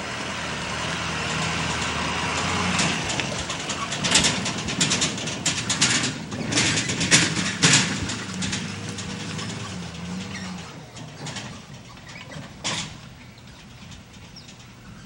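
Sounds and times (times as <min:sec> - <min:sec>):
truck engine running: 0:00.0 - 0:15.0
knocks and rattles: 0:00.6 - 0:15.0.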